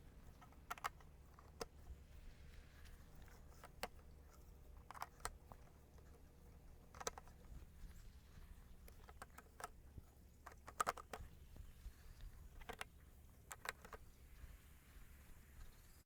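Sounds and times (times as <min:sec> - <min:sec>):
faint sharp clicks and taps: 0:00.0 - 0:14.6.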